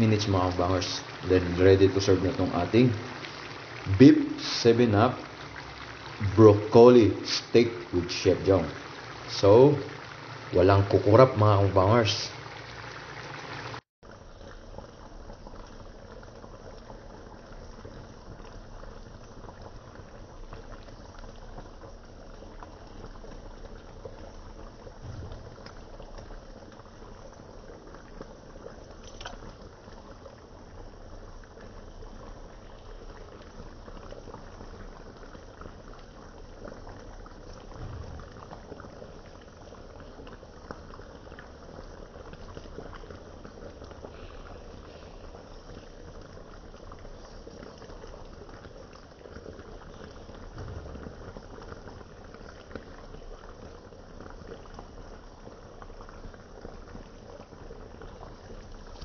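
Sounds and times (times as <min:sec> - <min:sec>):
sauce bubbling and popping: 0:00.0 - 0:59.0.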